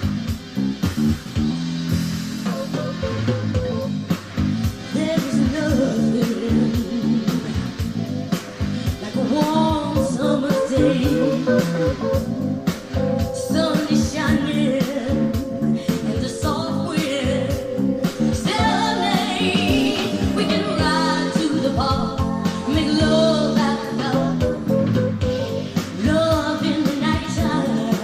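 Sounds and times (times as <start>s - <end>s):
song with singing and guitar: 0.0s - 28.0s.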